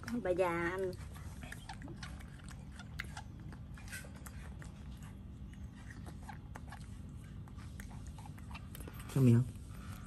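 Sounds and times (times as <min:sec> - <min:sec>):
monkey chewing wet smacking: 0:00.0 - 0:10.0
steady low hum: 0:00.0 - 0:10.0.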